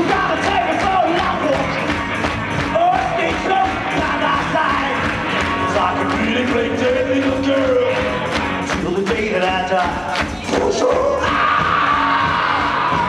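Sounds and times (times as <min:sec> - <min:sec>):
drums: 0:00.0 - 0:13.0
electric guitars: 0:00.0 - 0:13.0.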